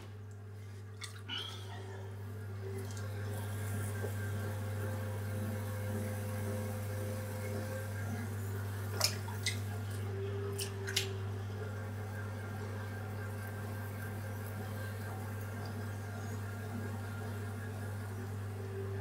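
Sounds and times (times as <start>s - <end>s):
potter's wheel humming: 0.0s - 19.0s.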